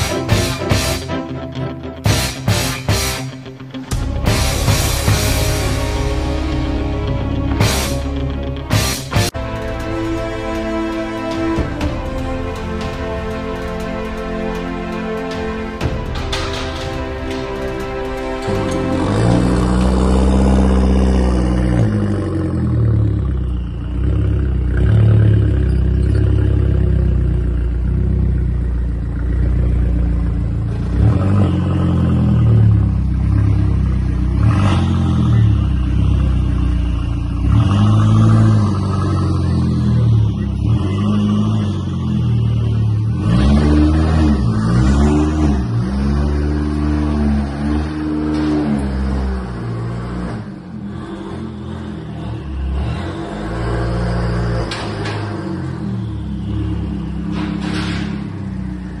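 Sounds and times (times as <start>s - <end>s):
loud car engine revving: 2.0s - 59.0s.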